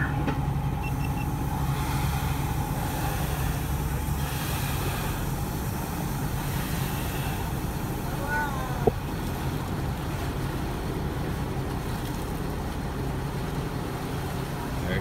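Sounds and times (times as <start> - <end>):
boat engine drone: 0.0 - 15.0
wind and water hiss: 0.0 - 15.0.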